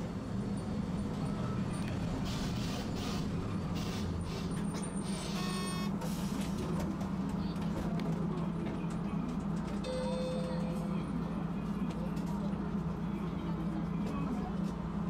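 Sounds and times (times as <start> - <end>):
streetcar low hum: 0.0 - 15.0.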